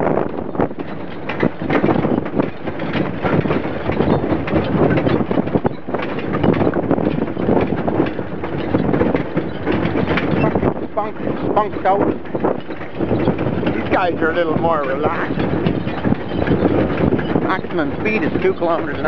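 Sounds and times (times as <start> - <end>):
horse hoofbeats: 0.0 - 19.0
wagon wheels clattering: 0.0 - 19.0.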